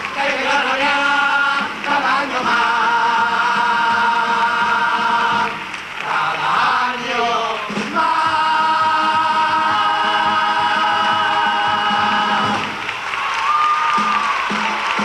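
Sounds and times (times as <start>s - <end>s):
choir singing in harmony: 0.0s - 12.8s.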